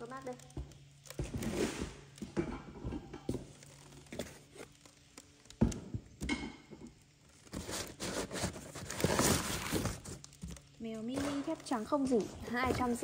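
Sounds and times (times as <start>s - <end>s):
cardboard packing rustling: 0.0s - 2.4s, 3.2s - 6.3s, 6.9s - 13.0s.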